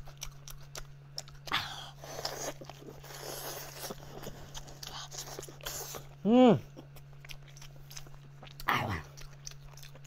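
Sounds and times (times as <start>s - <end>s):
chewing and biting rib: 0.0s - 10.0s
steady low hum: 0.0s - 10.0s.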